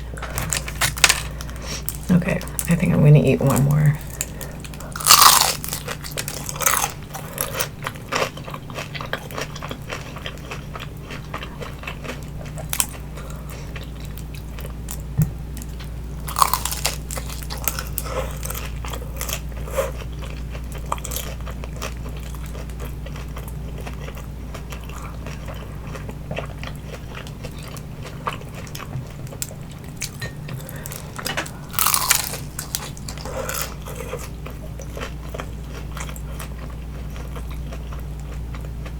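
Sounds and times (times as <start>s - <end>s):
person chewing crispy food: 0.0s - 38.9s.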